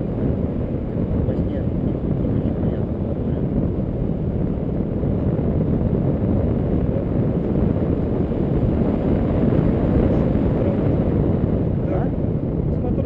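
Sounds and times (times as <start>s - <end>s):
wind buffeting a microphone: 0.0s - 13.0s.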